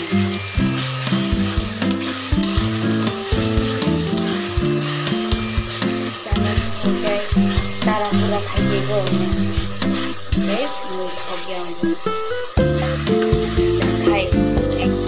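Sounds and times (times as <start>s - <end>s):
backing music: 0.0s - 15.0s
curry sizzling in a wok: 0.0s - 15.0s
spatula scraping a pan: 0.2s - 11.7s, 12.8s - 14.2s.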